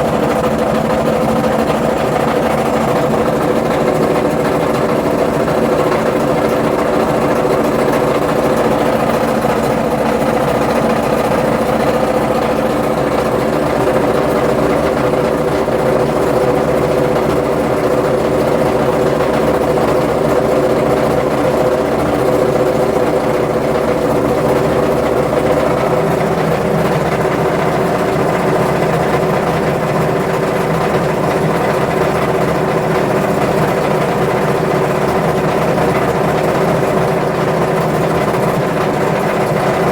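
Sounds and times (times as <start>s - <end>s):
washing machine hum: 0.0s - 39.9s
washing machine rapid rattle: 0.0s - 39.9s.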